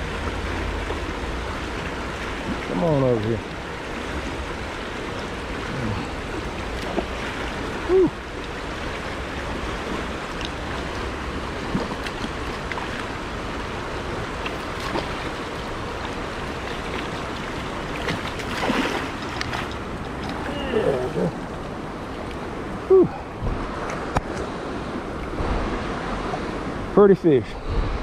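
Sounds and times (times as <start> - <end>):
creek water over rocks: 0.0 - 28.0.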